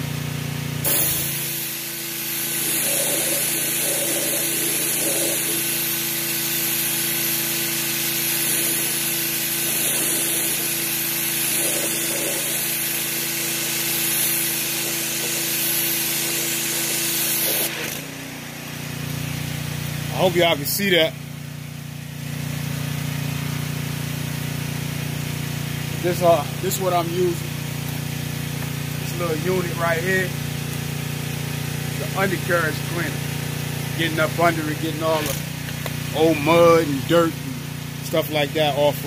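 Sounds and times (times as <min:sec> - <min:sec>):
pump running tone: 0:00.0 - 0:39.0
pressure washer spray hissing: 0:00.7 - 0:39.0.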